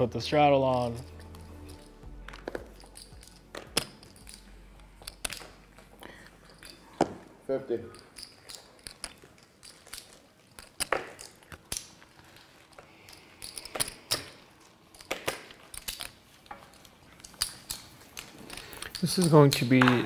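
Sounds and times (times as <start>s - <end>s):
poker chips clicking: 0.6s - 6.9s, 7.9s - 20.0s.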